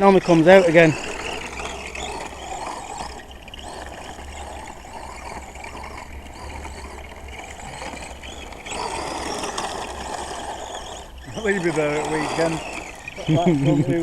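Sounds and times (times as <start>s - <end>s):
radio-controlled truck rumbling: 0.0s - 14.0s.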